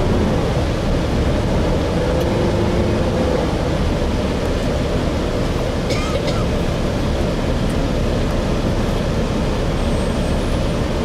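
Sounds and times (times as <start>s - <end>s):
bus engine low rumble: 0.0s - 11.0s.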